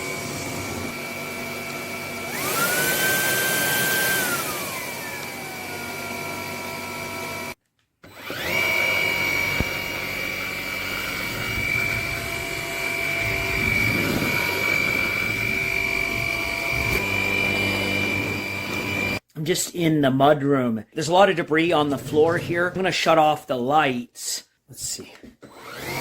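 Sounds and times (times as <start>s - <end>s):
stick vacuum motor whining: 0.0s - 19.2s, 21.6s - 22.9s, 25.4s - 26.0s.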